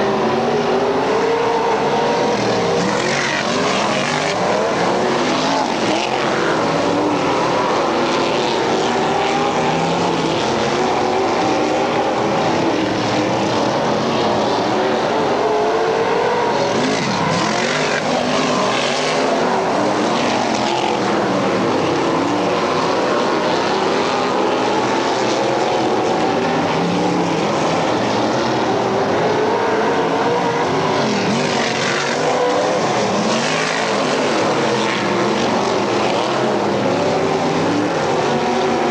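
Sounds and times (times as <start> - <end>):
race car engines running hard: 0.0 - 38.9.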